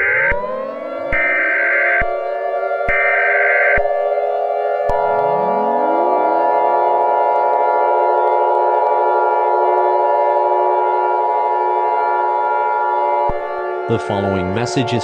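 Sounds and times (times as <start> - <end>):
multi-tone siren wailing: 0.0 - 15.0.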